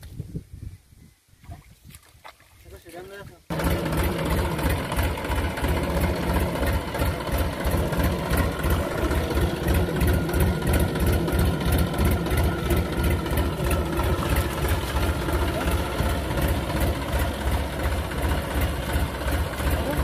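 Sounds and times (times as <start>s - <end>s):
tractor diesel engine running: 3.5s - 20.0s.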